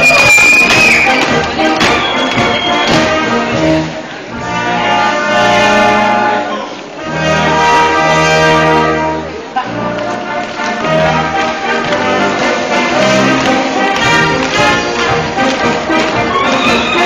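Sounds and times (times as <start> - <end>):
brass band playing folk dance tune: 0.0 - 17.0.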